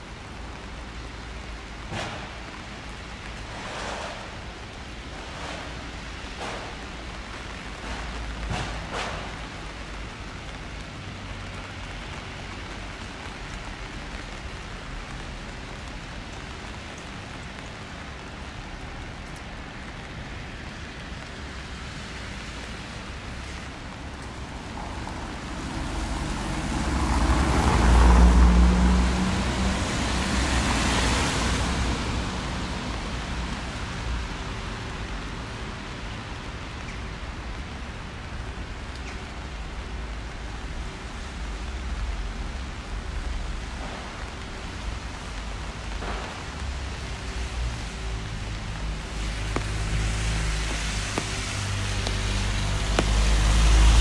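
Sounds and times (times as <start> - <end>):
car passing on wet road: 0.0 - 54.0
rain falling on a street: 0.0 - 54.0.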